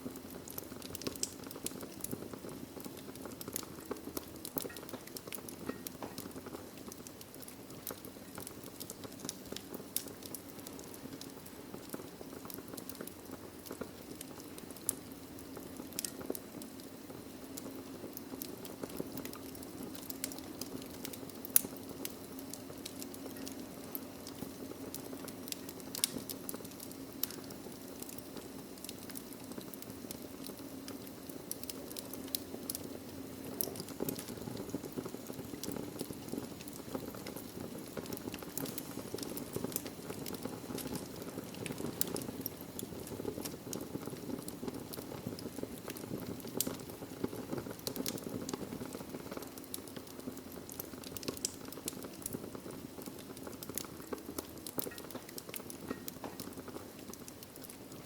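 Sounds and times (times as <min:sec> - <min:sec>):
logs crackling and popping: 0:00.0 - 0:58.0
flame hissing: 0:00.2 - 0:58.0.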